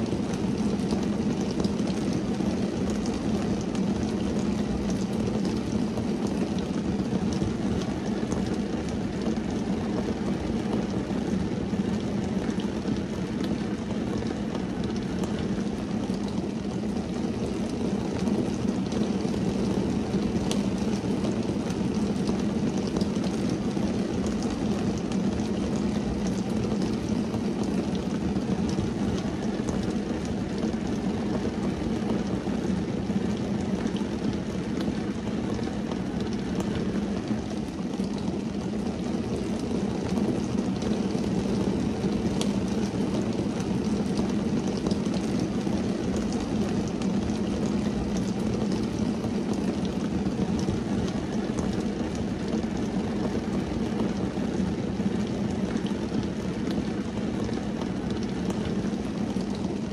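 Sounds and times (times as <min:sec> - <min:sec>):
rain drumming on car roof: 0:00.0 - 0:59.9.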